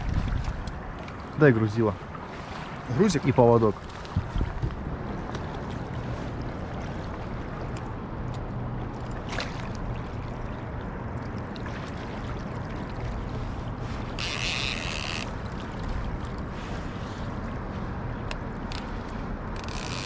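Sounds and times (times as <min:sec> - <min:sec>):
low steady hum: 0:00.0 - 0:20.0
river water rushing: 0:00.0 - 0:20.0
wind: 0:00.0 - 0:20.0.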